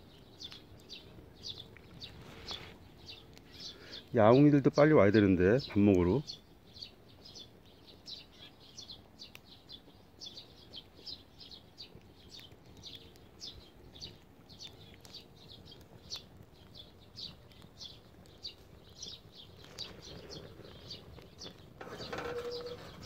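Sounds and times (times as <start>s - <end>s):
fire popping: 0.0s - 23.0s
small birds chirping: 0.0s - 23.0s.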